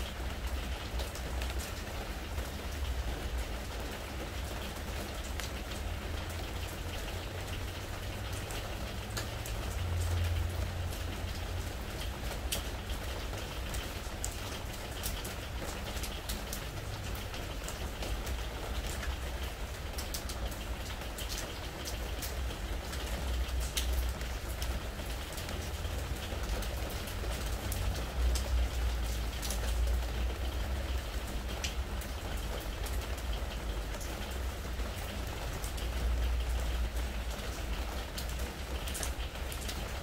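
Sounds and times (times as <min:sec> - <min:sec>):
rain pattering on wooden deck: 0:00.0 - 0:40.0.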